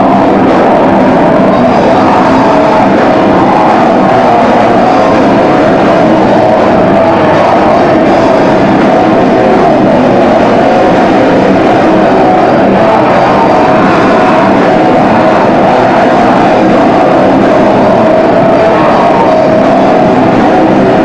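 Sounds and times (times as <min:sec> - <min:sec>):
distorted rock band playing: 0:00.0 - 0:21.0.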